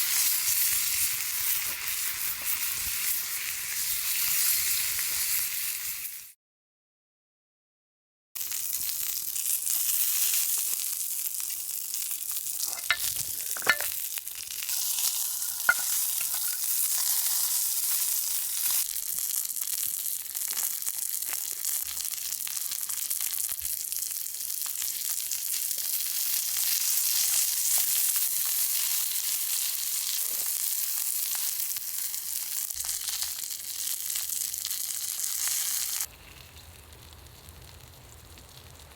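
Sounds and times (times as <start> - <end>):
steak sizzling on griddle: 0.0 - 6.4, 8.4 - 38.9.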